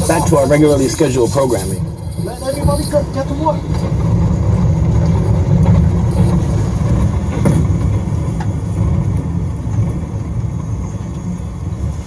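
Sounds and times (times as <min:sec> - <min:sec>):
vehicle engine low rumble: 0:00.0 - 0:12.0.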